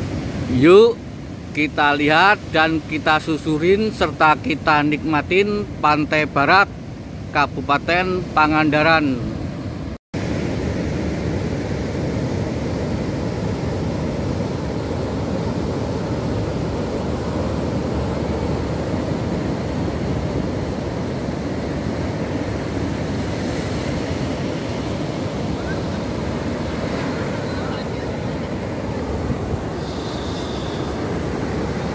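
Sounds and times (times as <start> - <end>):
surf breaking on a beach: 0.0 - 31.9.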